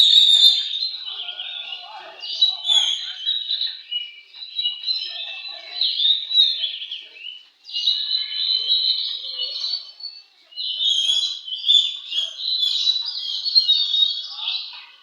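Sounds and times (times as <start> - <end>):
magpie-robin singing: 0.0 - 15.0.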